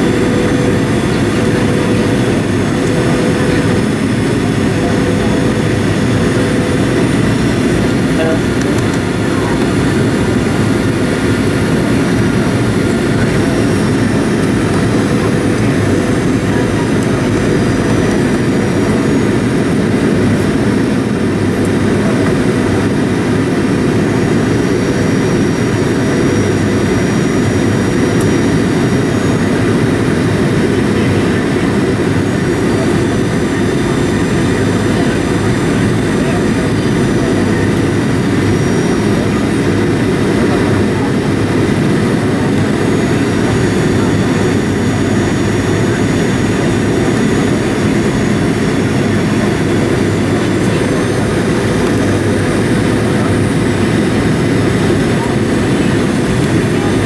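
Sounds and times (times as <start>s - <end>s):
faint steady whines: 0.0s - 57.0s
jet engine and airflow roar: 0.0s - 57.0s.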